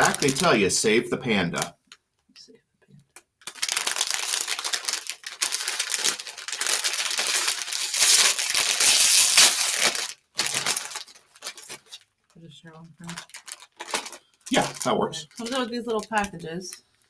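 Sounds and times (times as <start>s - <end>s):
plastic packaging crinkling: 0.0s - 0.6s, 3.4s - 17.0s.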